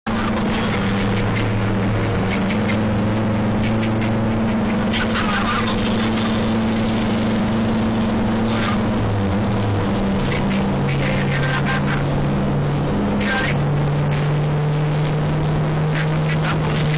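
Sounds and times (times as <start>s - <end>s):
car engine hum: 0.0s - 16.9s
road noise inside car: 0.0s - 16.9s.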